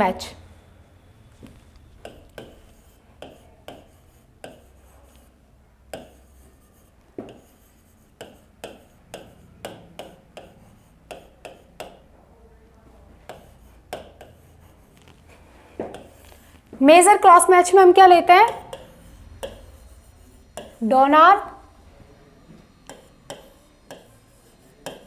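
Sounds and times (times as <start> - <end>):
marker writing on a board: 1.5 - 12.1, 13.1 - 16.7, 18.4 - 21.7, 22.4 - 25.0.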